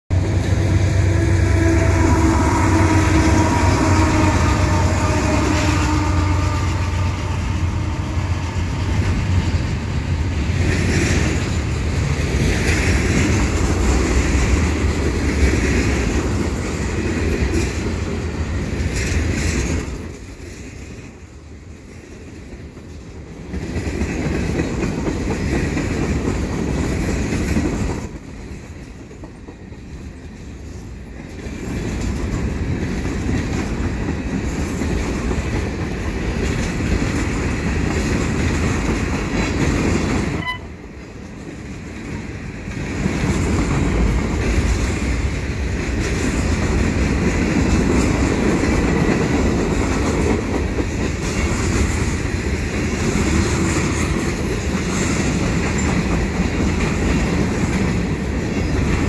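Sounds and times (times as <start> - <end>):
freight train wheels rumbling: 0.1 - 59.0.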